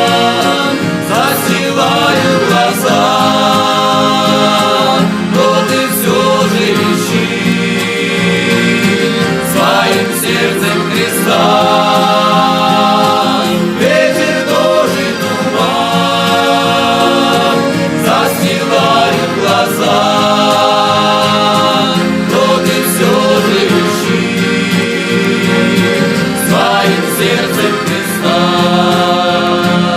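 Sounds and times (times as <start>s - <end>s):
instrumental accompaniment: 0.0s - 29.9s
voices singing in harmony: 0.0s - 29.9s.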